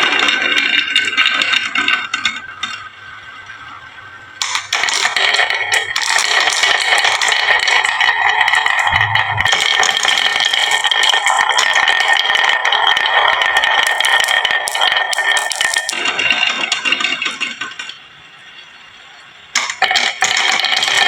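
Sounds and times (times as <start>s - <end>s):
marbles rolling down wooden track: 0.0s - 2.8s, 4.4s - 18.1s, 19.5s - 21.0s.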